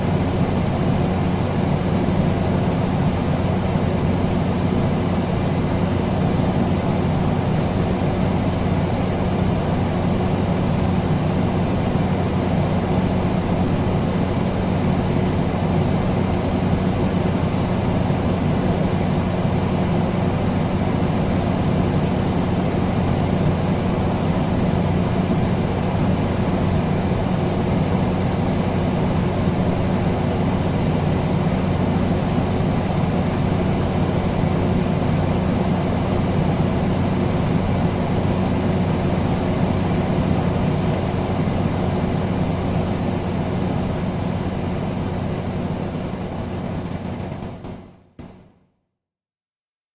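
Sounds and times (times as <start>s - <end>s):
air conditioner humming: 0.0s - 48.4s.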